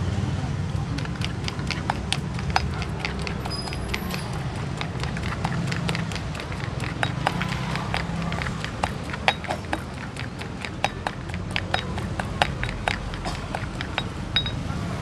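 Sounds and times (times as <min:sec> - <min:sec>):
sharp irregular clicks and clacks: 0:00.7 - 0:14.6.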